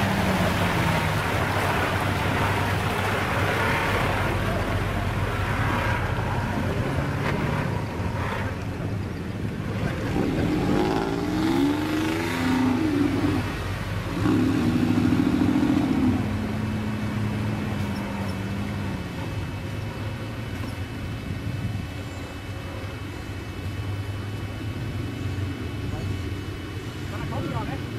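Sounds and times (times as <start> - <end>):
buggy engine revving: 0.0 - 27.9.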